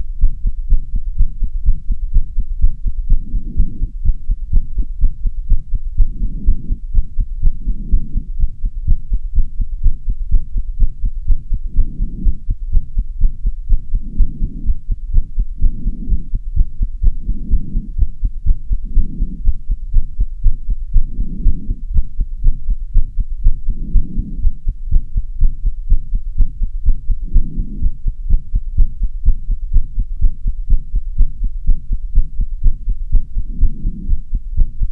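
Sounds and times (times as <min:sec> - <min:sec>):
fast heartbeat thumps: 0:00.0 - 0:34.9.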